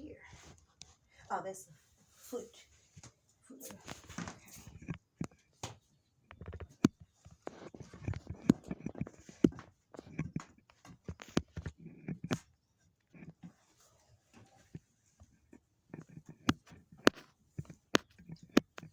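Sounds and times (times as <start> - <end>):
handling knocks clicks and taps: 3.0 - 13.6, 14.3 - 18.9.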